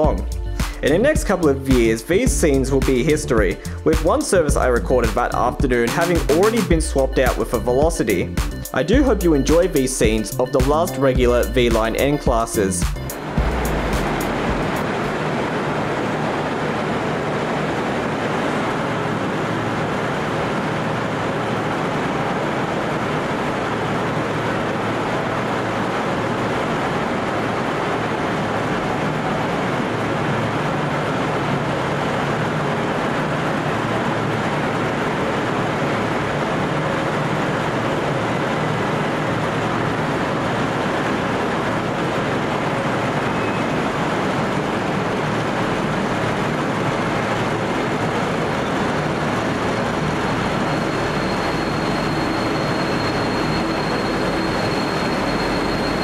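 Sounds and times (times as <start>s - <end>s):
diesel locomotive idling: 0.0s - 56.0s.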